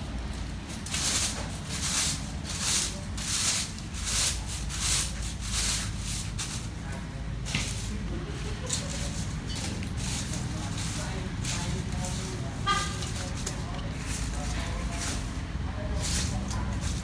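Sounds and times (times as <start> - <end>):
broom sweeping tiled floor: 0.0 - 17.0.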